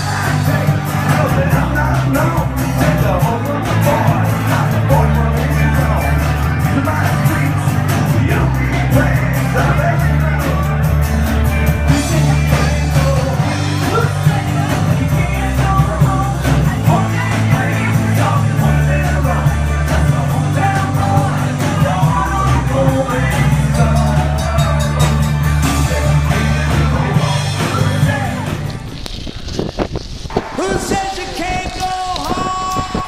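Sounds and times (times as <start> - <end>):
person singing: 0.0 - 28.7
bass guitar: 0.0 - 33.0
drums keeping a beat: 0.0 - 33.0
electric and acoustic guitars: 0.0 - 33.0.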